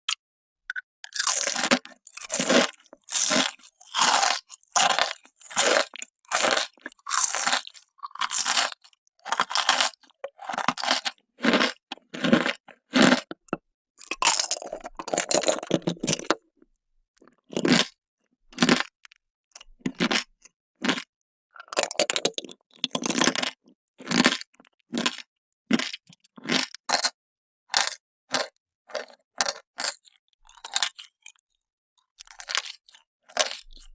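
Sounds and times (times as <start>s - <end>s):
hard candy crunching: 0.7s - 16.4s, 17.2s - 33.9s.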